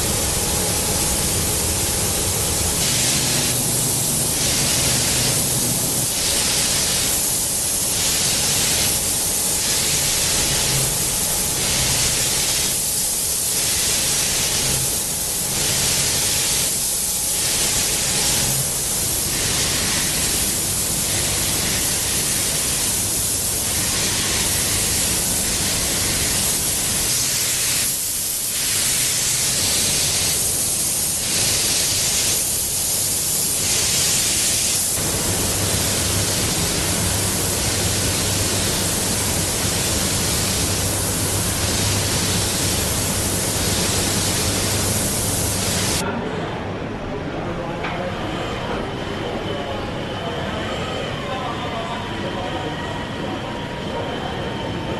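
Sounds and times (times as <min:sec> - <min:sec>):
robotic paint sprayers hissing: 0:00.0 - 0:46.0.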